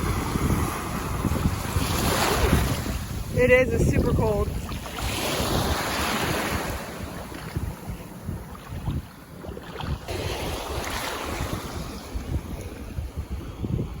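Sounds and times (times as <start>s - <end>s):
surf washing at shoreline: 0.0s - 14.0s
wind buffeting microphone: 0.0s - 14.0s.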